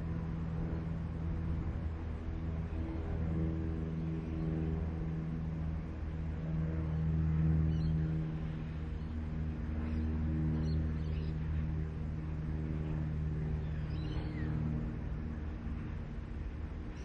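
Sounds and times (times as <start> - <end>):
diesel locomotive engines droning: 0.0 - 17.0.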